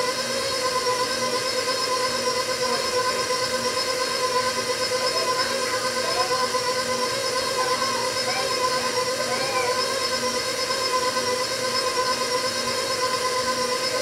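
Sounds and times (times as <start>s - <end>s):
stand mixer motor whining: 0.0s - 14.0s.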